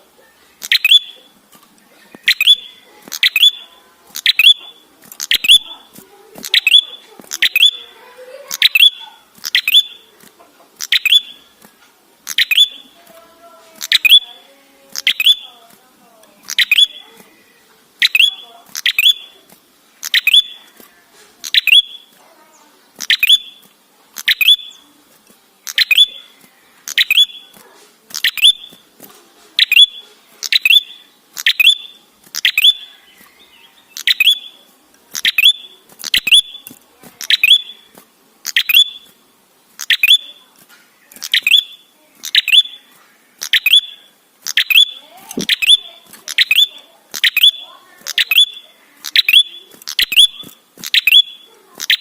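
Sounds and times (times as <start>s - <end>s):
songbird sharp high chirps: 0.5s - 1.4s, 2.2s - 10.1s, 10.8s - 11.6s, 12.3s - 13.0s, 13.8s - 15.6s, 16.4s - 17.2s, 18.0s - 20.8s, 21.4s - 24.9s, 25.6s - 28.8s, 29.6s - 39.2s, 39.8s - 40.4s, 41.1s - 52.0s.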